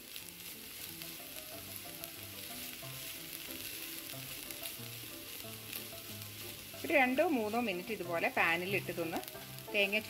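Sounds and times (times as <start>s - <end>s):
spatula stirring: 0.0s - 10.0s
vegetables sizzling in pan: 0.0s - 10.0s.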